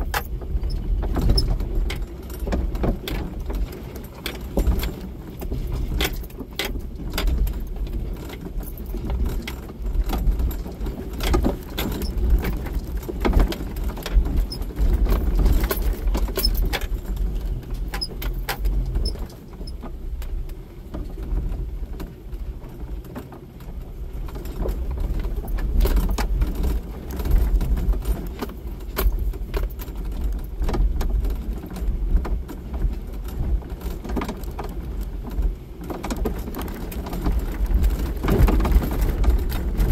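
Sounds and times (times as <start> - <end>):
engine and tyre rumble: 0.0 - 39.9
vehicle rattles and clinks: 0.0 - 39.9.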